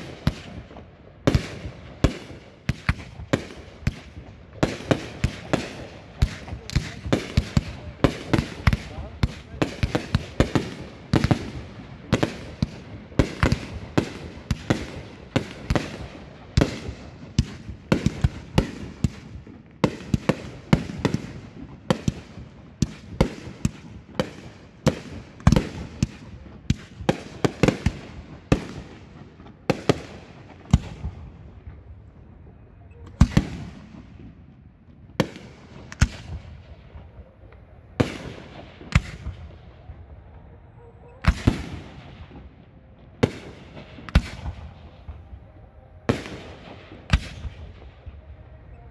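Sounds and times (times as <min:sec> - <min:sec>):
fireworks sharp bangs: 0:00.0 - 0:32.2, 0:32.9 - 0:48.9.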